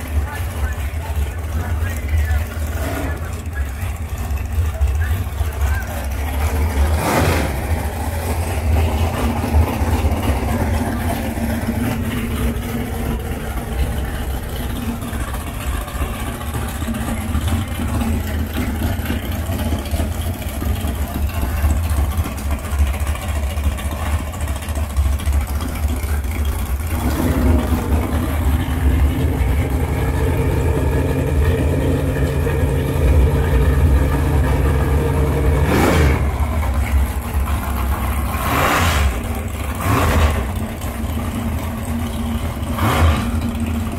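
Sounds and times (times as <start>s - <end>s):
boat engine rough idle: 0.0s - 43.9s.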